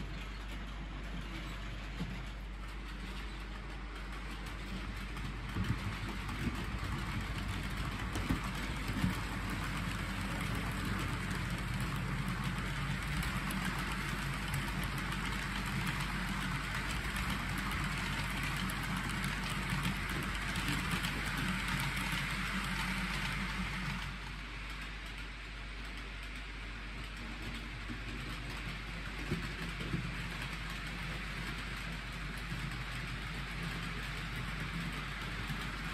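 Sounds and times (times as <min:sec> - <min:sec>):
metal wheels rolling on track: 0:00.0 - 0:35.9
model train motor humming: 0:00.0 - 0:35.9.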